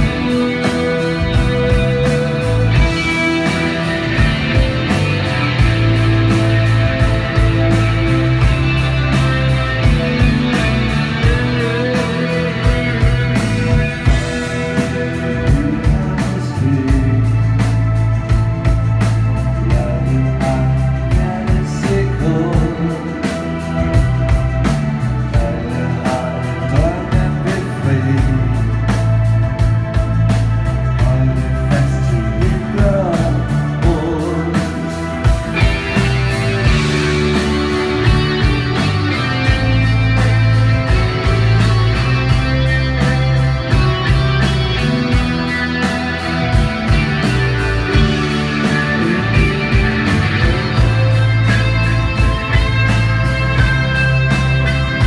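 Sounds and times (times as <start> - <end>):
live rock band playing: 0.0 - 55.0
steady drumbeat: 0.0 - 55.0.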